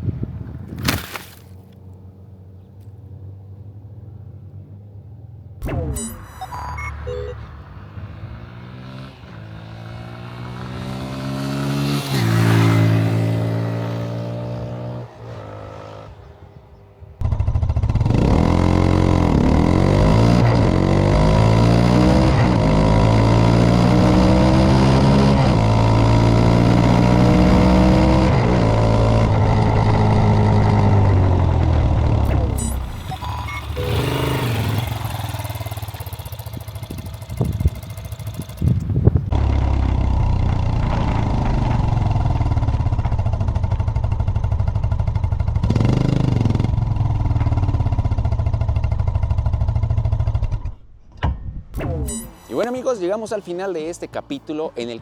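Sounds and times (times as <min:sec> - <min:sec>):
motorcycle engine accelerating: 0:00.0 - 0:51.0.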